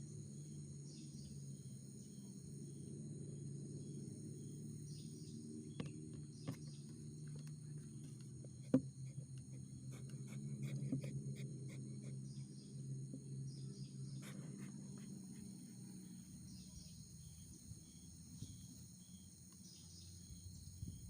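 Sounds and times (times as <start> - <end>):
insects droning: 0.0 - 21.0
low steady hum: 0.0 - 21.0.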